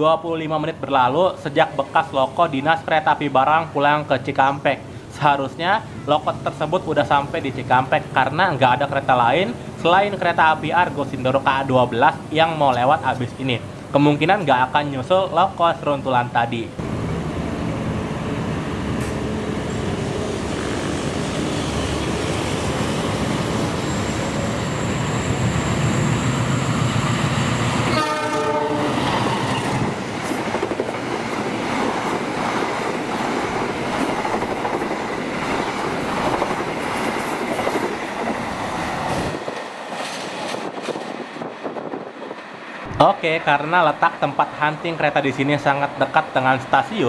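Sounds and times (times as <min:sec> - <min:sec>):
diesel locomotive engine drone: 0:00.6 - 0:16.1, 0:16.7 - 0:47.0.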